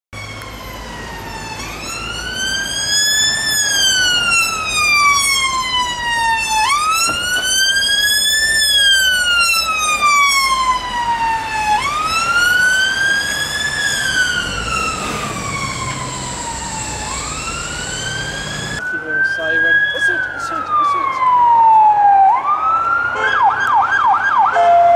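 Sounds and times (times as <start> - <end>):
police siren wailing: 0.2 - 24.9.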